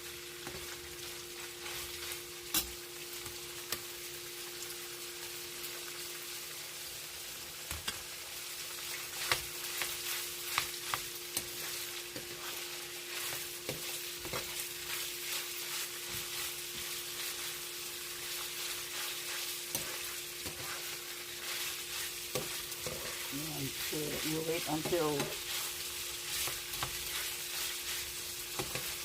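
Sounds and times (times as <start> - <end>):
pork sizzling in hot oil: 0.0 - 29.0.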